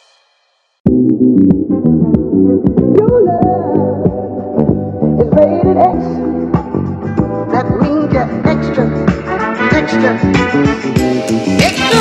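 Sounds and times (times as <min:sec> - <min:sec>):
background music: 0:00.9 - 0:12.0
electronic track with clicking beats: 0:00.9 - 0:12.0.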